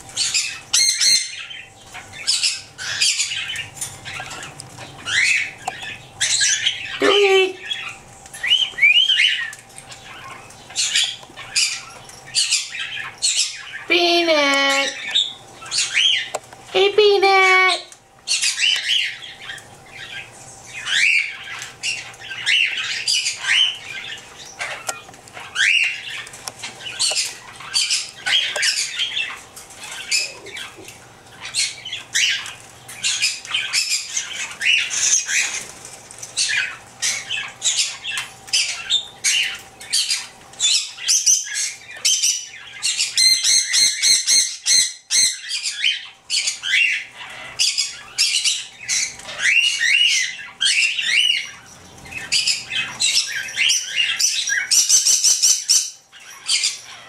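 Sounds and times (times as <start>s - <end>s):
cockatiels chirping and squawking: 0.0s - 57.0s.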